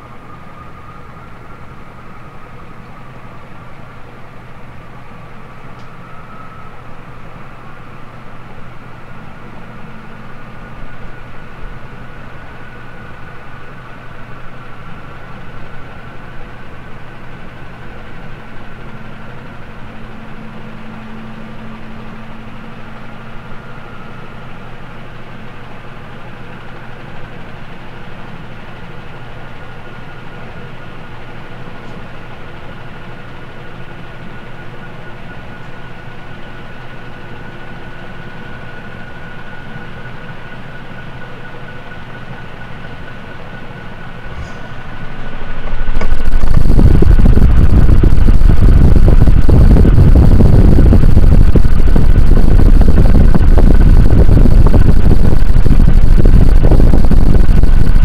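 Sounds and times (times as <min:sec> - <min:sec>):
ceiling fan running: 0:00.0 - 0:58.0.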